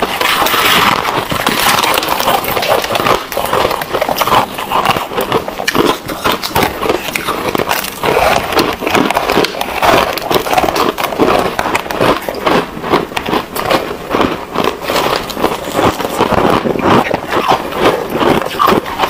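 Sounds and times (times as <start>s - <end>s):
crunchy ice chewing: 0.0s - 19.0s.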